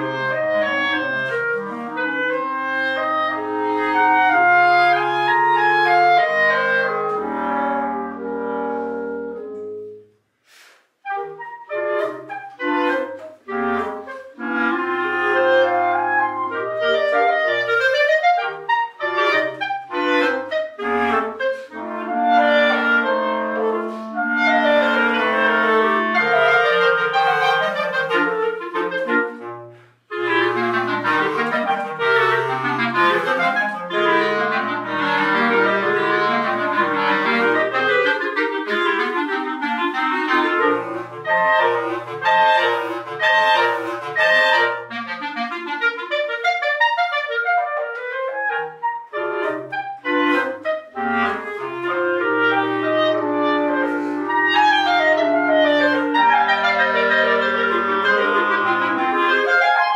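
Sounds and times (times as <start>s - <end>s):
clarinet quartet playing: 0.0s - 59.9s.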